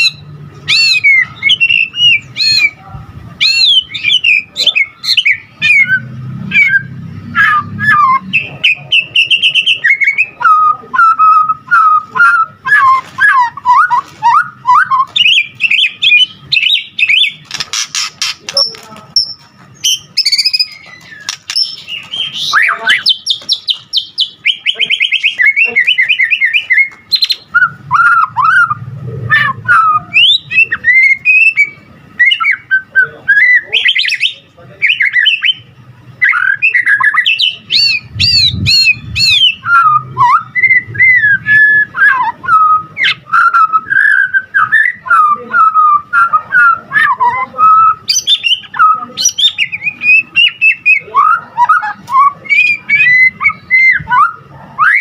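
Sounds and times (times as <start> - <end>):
bird singing whistles and trills: 0.0 - 2.8, 3.4 - 55.0.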